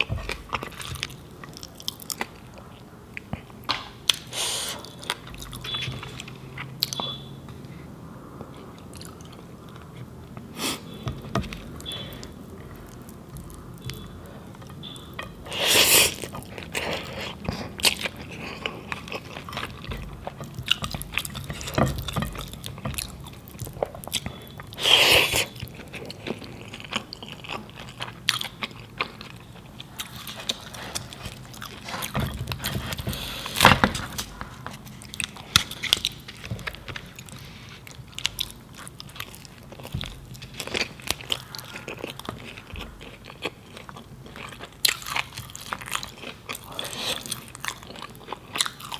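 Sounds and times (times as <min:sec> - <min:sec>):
chewing food: 0:08.4 - 0:48.9.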